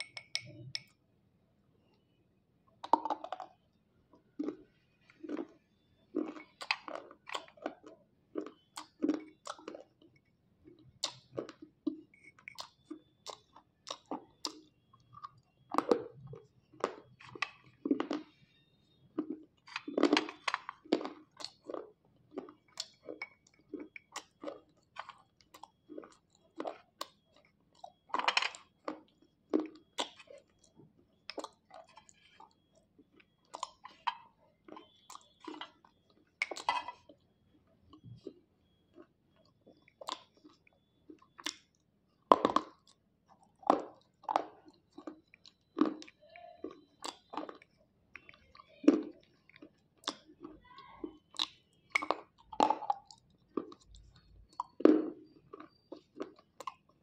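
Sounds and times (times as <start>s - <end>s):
sharp dry chewing crunches: 4.3s - 9.9s, 10.7s - 37.2s, 37.9s - 57.0s.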